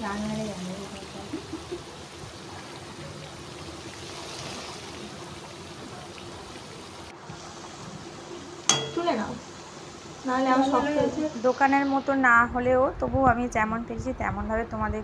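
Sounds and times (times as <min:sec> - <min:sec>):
oil sizzling and bubbling: 0:00.0 - 0:14.6.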